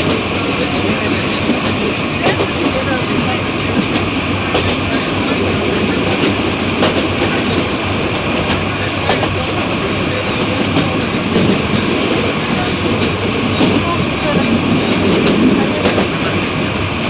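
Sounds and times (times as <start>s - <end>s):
train rumbling and rattling: 0.0s - 17.0s
wheels clicking on track: 0.0s - 17.0s.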